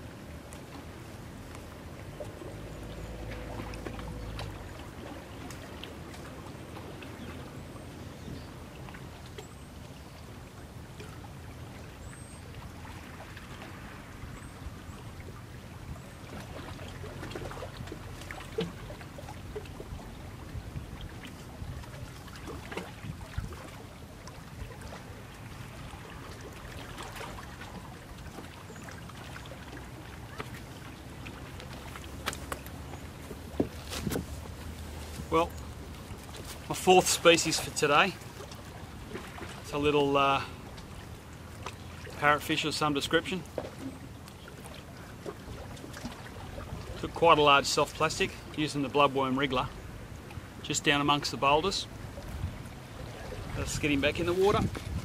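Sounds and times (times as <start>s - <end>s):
water lapping against rocks: 0.0s - 55.0s.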